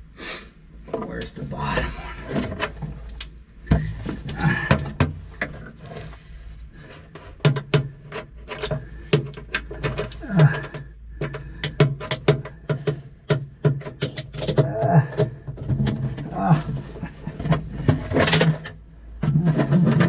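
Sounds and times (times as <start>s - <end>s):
hand tools clicking and knocking: 0.9s - 5.7s, 7.1s - 20.0s.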